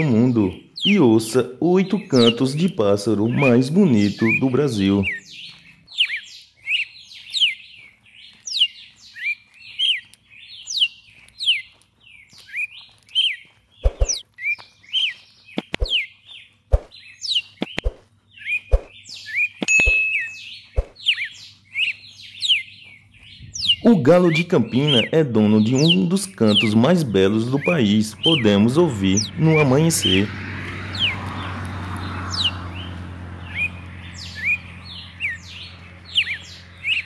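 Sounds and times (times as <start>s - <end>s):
bird whistling song: 0.0s - 1.1s, 2.0s - 2.6s, 3.2s - 30.2s, 30.9s - 31.2s, 32.3s - 37.0s.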